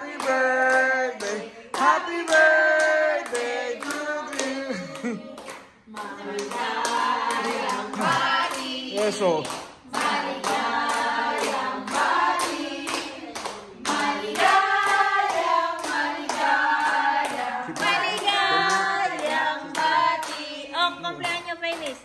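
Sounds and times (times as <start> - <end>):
group of people singing: 0.0 - 21.3
hands clapping in time: 0.1 - 20.4.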